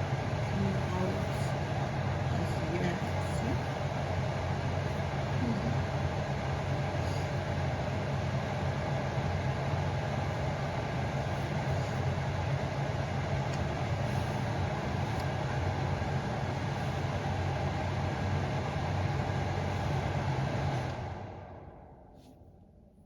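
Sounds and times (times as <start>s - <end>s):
humidifier fan whooshing hum: 0.0s - 23.0s.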